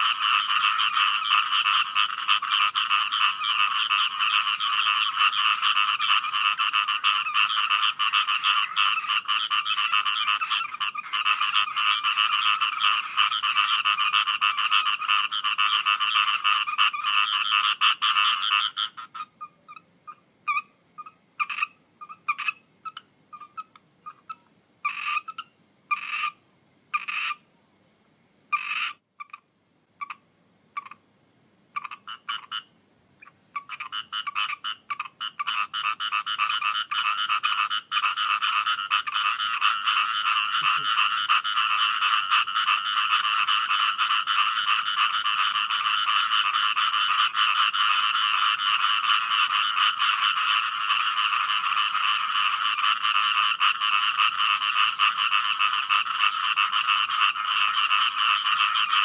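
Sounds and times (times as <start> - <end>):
frogs croaking in chorus: 0.0 - 59.0.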